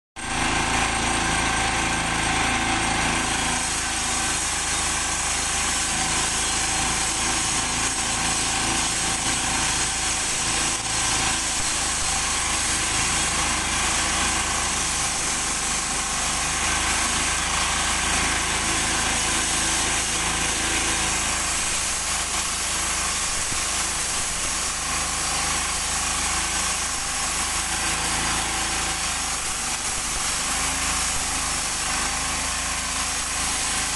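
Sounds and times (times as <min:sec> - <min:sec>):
concrete saw cutting concrete: 0:00.2 - 0:33.9.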